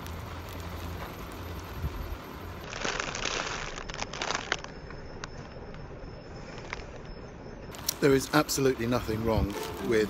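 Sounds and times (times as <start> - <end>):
crackling crinkling noise: 0.0 - 10.0.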